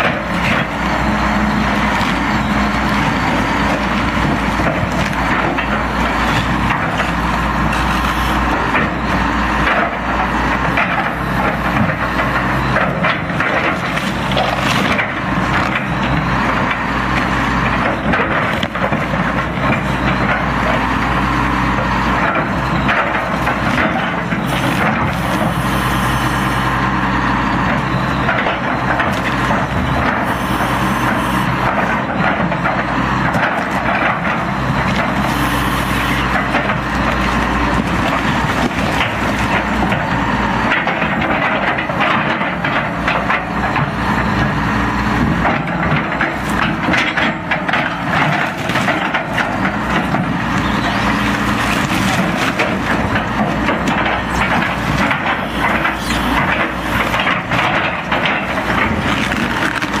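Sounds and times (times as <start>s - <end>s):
diesel engine running: 0.0s - 60.0s
wood and metal cracking: 1.8s - 25.6s, 27.6s - 44.5s, 45.1s - 60.0s.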